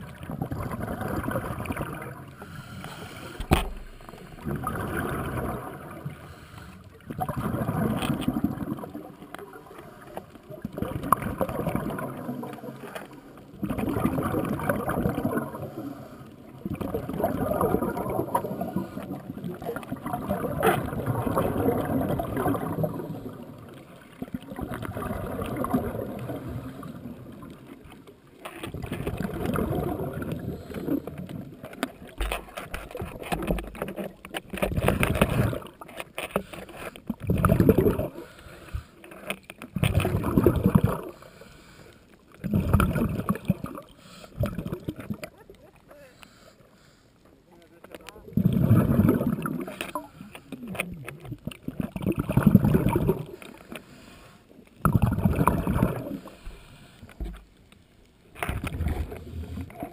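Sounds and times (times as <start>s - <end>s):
underwater air bubbles gurgling: 0.0s - 47.0s, 47.9s - 59.9s.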